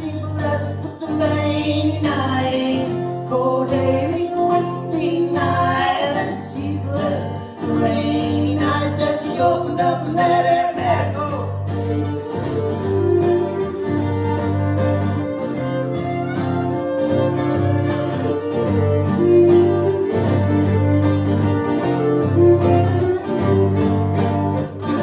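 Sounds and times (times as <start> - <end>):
guitar and bass backing: 0.0 - 25.0
fiddle folk tune: 4.3 - 25.0.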